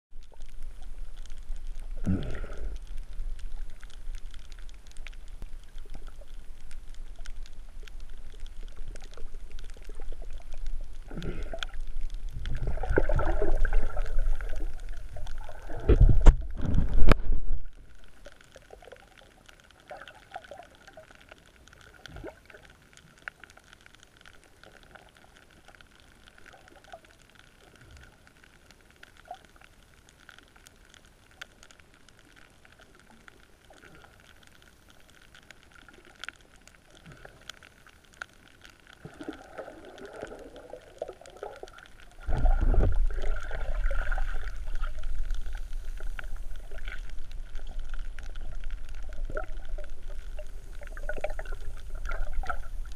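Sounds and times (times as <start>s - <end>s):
underwater bubbles gurgling: 0.1s - 52.9s
faint clicks: 0.2s - 52.9s.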